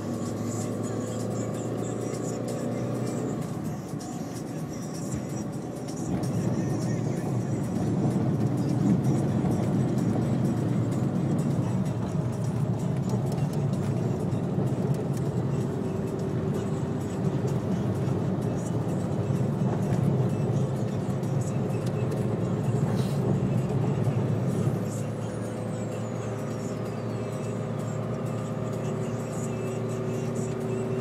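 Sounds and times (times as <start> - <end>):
car engine and road rumble: 0.0 - 31.0
music playing: 0.0 - 31.0.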